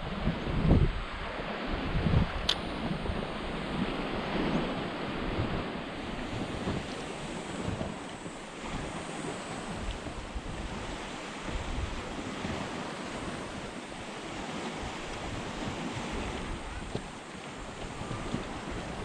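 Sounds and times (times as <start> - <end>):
waves washing: 0.0 - 19.0
wind buffeting microphone: 0.0 - 19.0.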